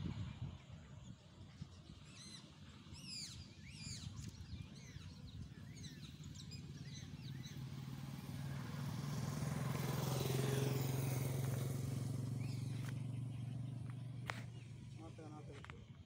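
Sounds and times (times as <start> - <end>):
small birds chirping: 0.4 - 16.0
vehicle engine hum: 2.1 - 16.0.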